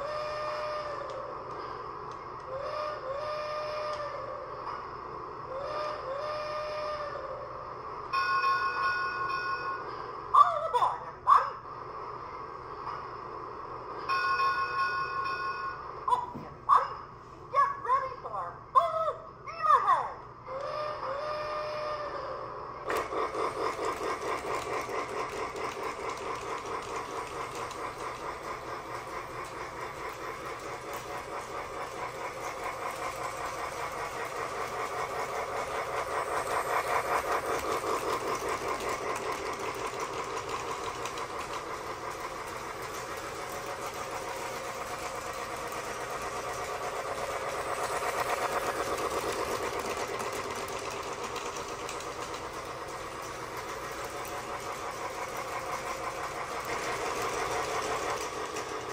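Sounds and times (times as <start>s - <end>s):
toy train wheels clattering: 0.0s - 18.9s, 20.5s - 58.9s
toy train motor hum: 0.0s - 58.9s.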